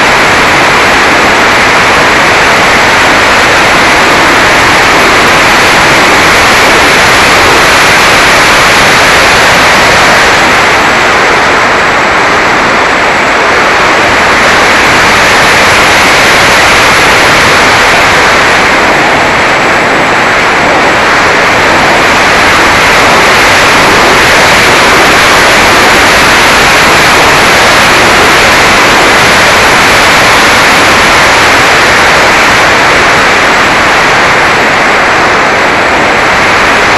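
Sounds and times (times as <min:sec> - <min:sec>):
electric motor and propeller noise: 0:00.0 - 0:36.9
wind rushing: 0:00.0 - 0:36.9.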